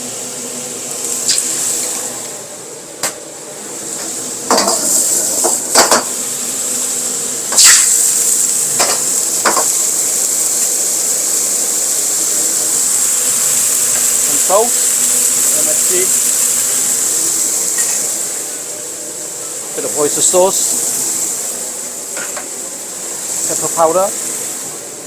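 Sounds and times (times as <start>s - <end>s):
food sizzling in a wok: 0.0s - 25.0s.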